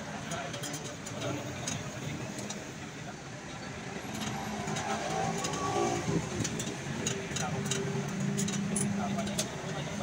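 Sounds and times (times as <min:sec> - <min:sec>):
street traffic noise: 0:00.0 - 0:10.0
vehicle engine running nearby: 0:00.0 - 0:10.0.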